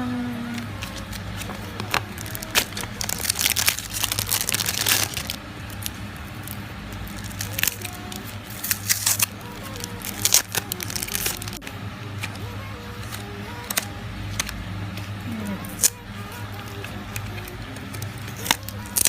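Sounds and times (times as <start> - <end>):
packaging crinkling and tearing: 0.8 - 19.0.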